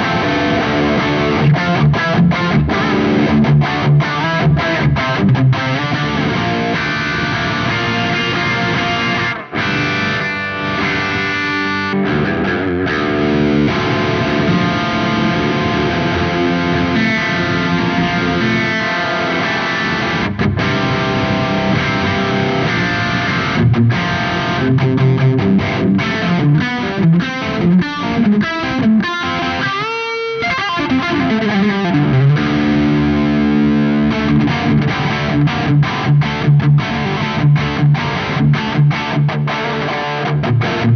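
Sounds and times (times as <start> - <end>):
distorted electric guitar riff: 0.0 - 40.9.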